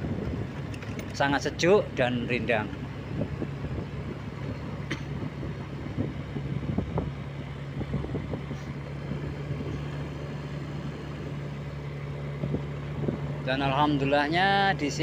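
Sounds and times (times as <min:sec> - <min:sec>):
road noise: 0:00.0 - 0:15.0
scooter engine running: 0:00.0 - 0:15.0.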